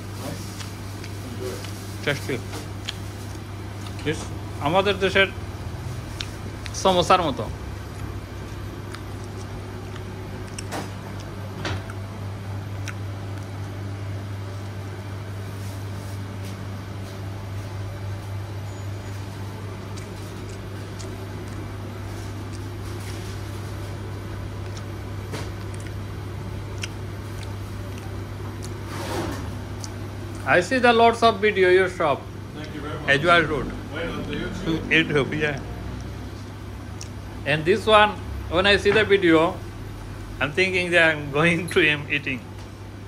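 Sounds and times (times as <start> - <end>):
low machine hum: 0.0 - 43.0.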